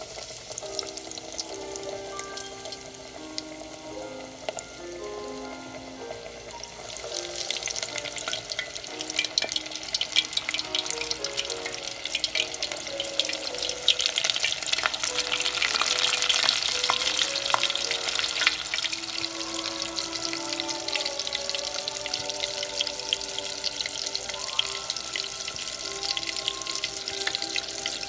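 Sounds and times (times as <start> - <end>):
shrimp deep-frying in hot oil: 0.0 - 28.0
soft instrumental music: 0.0 - 28.0.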